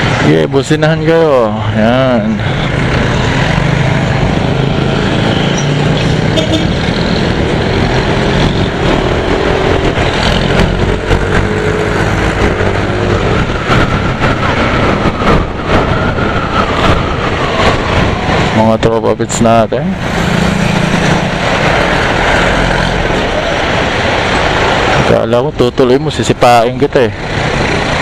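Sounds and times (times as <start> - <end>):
road traffic engines: 0.0 - 28.0.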